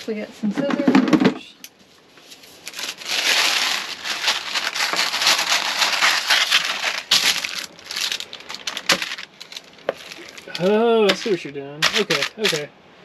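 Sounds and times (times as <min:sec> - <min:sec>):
parchment paper crinkling: 0:02.2 - 0:12.7.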